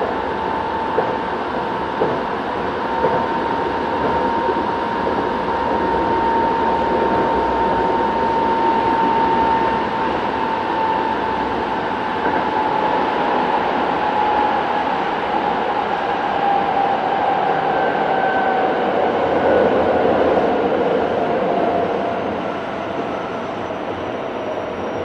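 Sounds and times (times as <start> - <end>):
train running noise: 0.0 - 25.0.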